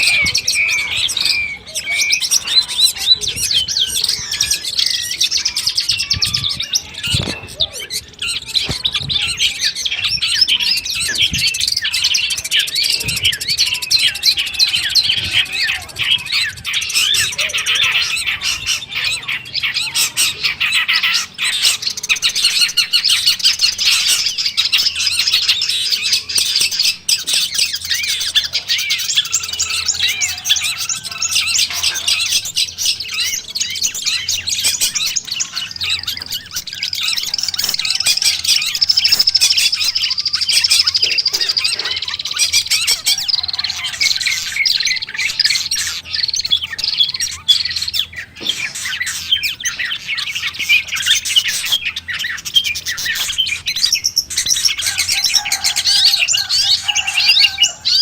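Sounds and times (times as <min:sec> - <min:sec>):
bird singing high chirps: 0:00.0 - 0:58.0.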